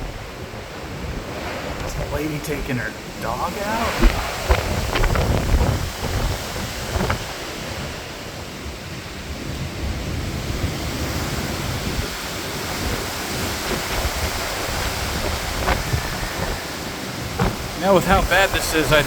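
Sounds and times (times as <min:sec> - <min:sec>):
storm wind gusting on microphone: 0:00.0 - 0:19.0.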